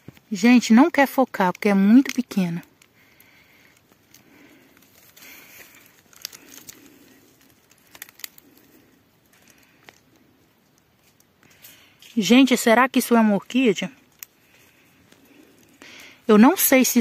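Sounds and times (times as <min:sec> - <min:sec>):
faint rustling and crinkling: 0:00.0 - 0:17.0.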